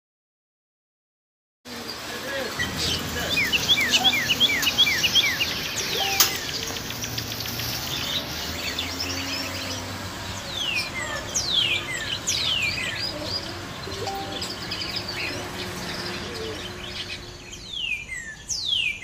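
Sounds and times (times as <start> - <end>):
caged birds chirping: 1.7 - 19.0.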